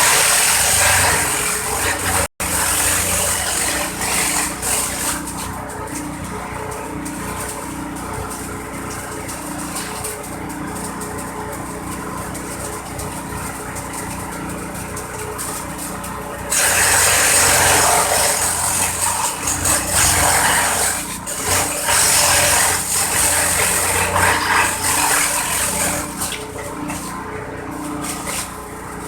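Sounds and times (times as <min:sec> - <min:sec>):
chopping machine humming: 0:00.0 - 0:29.0
corn stalks shredding: 0:00.0 - 0:29.0.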